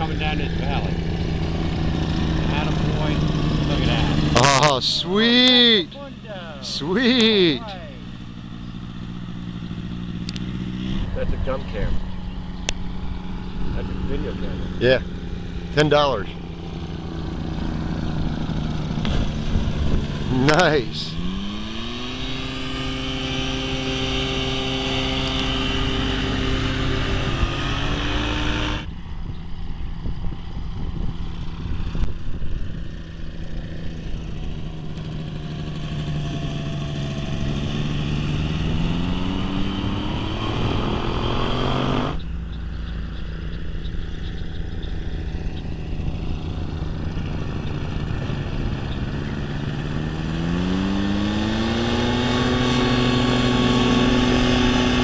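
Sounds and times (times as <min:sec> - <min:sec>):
two-stroke engine and propeller: 0:00.0 - 0:55.0.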